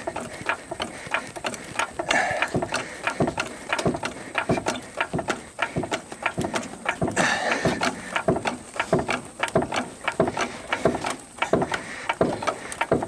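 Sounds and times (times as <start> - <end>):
jack ratchet clicking and knocking: 0.0 - 13.0.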